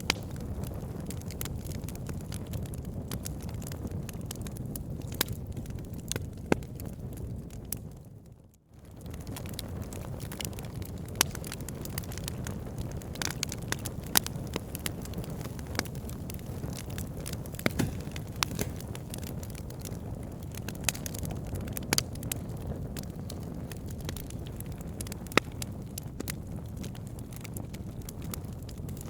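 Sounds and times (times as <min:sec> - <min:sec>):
wood fire burning: 0:00.0 - 0:29.0.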